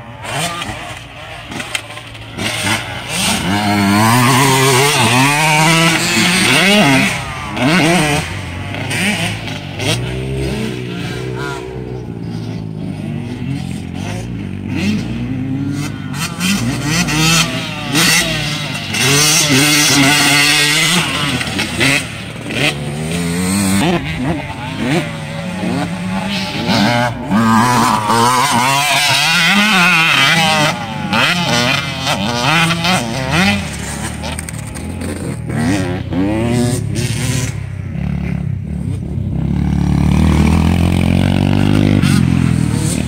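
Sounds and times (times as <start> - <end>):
dirt bike engines revving: 0.0 - 43.0.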